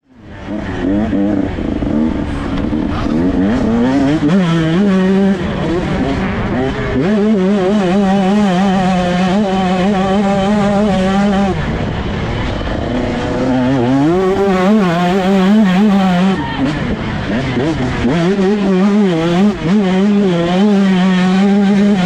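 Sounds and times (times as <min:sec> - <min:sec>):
motocross engine revving: 0:00.1 - 0:22.0.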